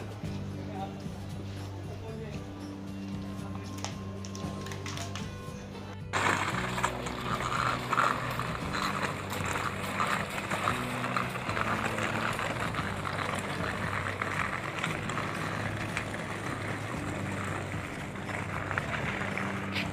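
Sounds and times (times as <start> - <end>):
suitcase wheels rolling on concrete: 0.0 - 19.9.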